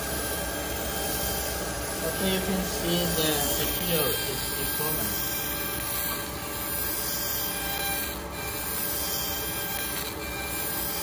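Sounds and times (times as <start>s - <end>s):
cutting machine hissing: 0.0s - 11.0s.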